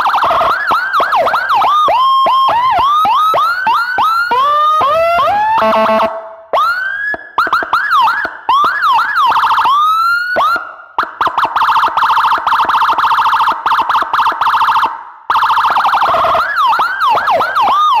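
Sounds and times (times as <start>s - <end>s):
electronic siren changing tones: 0.0s - 18.0s.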